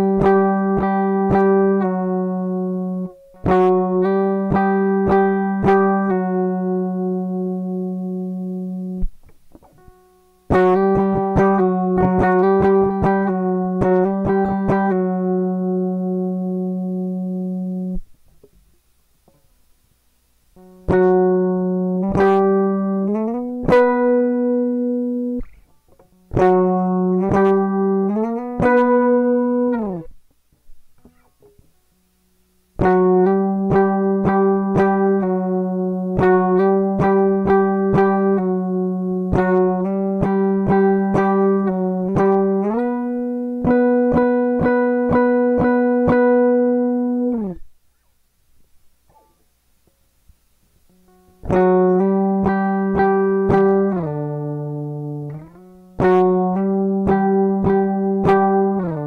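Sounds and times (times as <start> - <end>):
guitar playing slow lead phrase: 0.0 - 18.1, 20.6 - 30.1, 32.8 - 47.7, 50.9 - 59.0.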